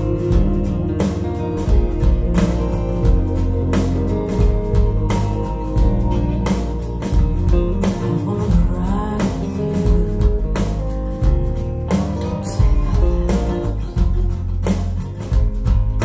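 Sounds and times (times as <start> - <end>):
song with guitar bass and drums: 0.0 - 16.0.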